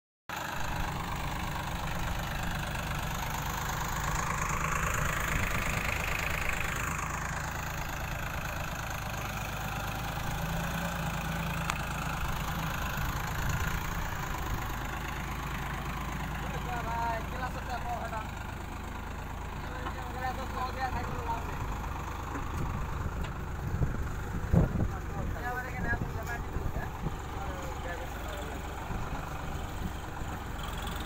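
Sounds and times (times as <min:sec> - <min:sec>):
tractor diesel engine under load: 0:00.3 - 0:31.0.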